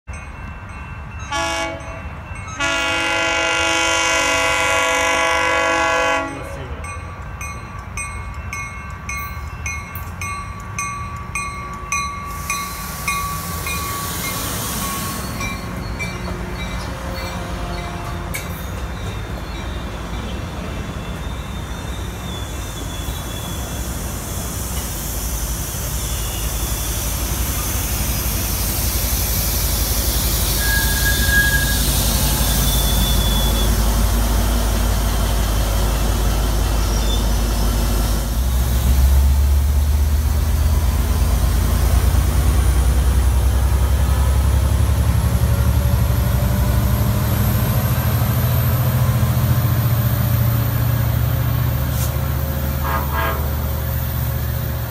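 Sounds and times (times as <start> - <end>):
diesel locomotive engine drone: 0.1 - 54.9
train wheels rolling: 6.9 - 54.9.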